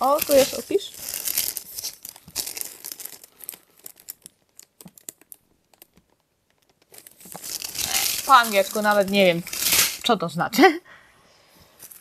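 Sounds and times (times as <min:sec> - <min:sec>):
plastic wrapping crinkling: 0:00.0 - 0:10.2.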